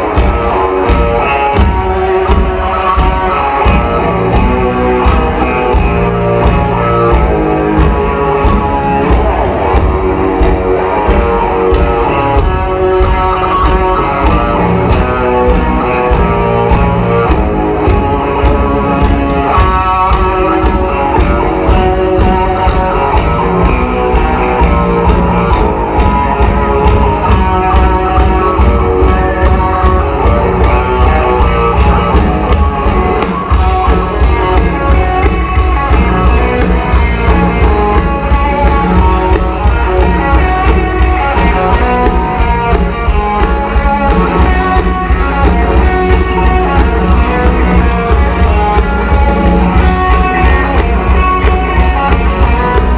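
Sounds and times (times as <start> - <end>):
electric guitars: 0.0 - 52.9
steady drum beat: 0.0 - 52.9.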